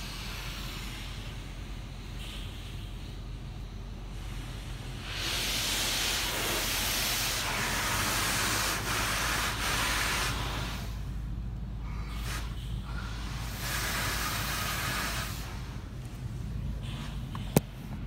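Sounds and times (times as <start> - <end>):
car wash water spray hissing: 0.0 - 17.9
steady low hum: 0.0 - 18.0.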